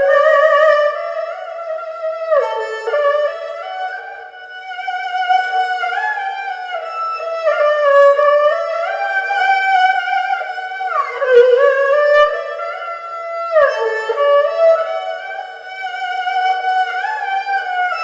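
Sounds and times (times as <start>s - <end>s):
erhu slow melody: 0.0s - 18.0s.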